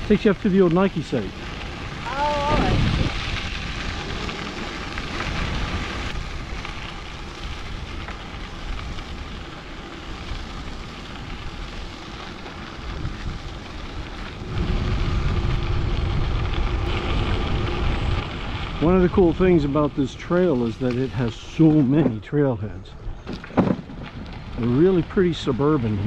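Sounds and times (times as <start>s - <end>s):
wind rushing over microphone: 0.0s - 12.0s, 12.6s - 26.0s
tyres rolling on gravel: 0.0s - 26.0s.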